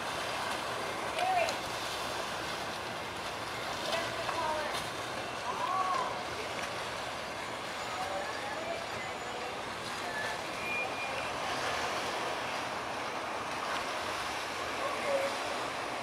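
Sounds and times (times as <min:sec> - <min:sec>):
boat engine and wake: 0:00.0 - 0:16.0.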